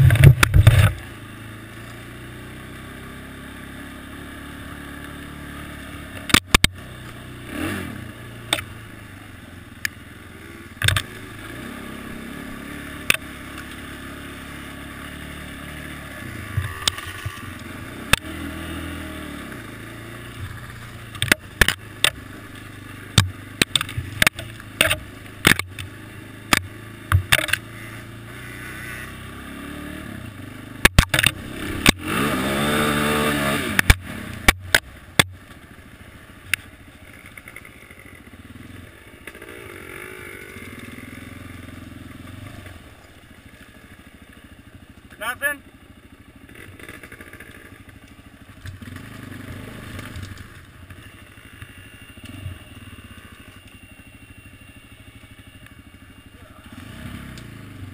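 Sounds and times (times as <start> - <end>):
quad engine running: 0.0 - 57.9.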